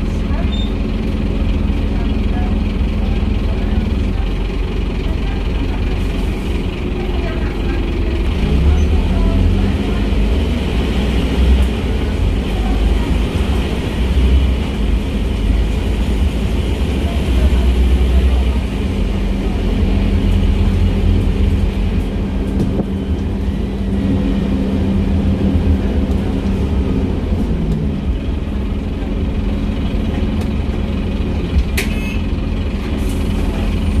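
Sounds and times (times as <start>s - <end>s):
bus diesel engine: 0.0s - 34.0s.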